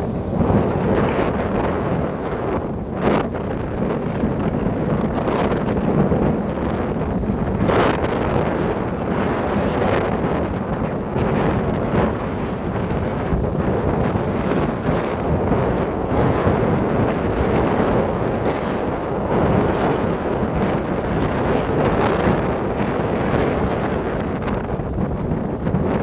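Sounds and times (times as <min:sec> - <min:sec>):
sea waves breaking: 0:00.0 - 0:26.0
strong wind on microphone: 0:00.0 - 0:26.0.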